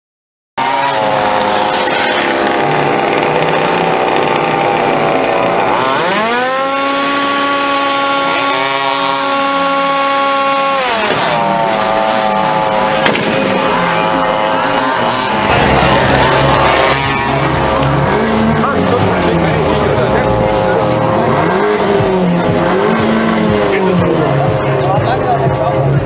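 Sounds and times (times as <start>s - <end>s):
buzzy model car engine revving: 0.6s - 24.4s.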